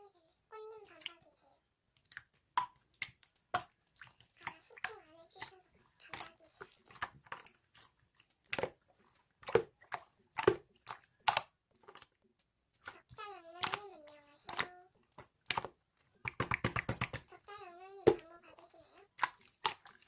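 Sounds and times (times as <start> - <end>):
crunching and chewing crisp food: 2.0 - 16.4, 18.2 - 20.0.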